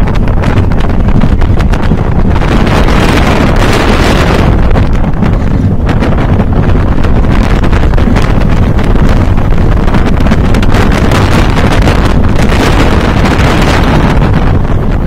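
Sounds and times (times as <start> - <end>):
roller coaster rumbling on track: 0.0 - 15.0
wind buffeting microphone: 0.0 - 15.0.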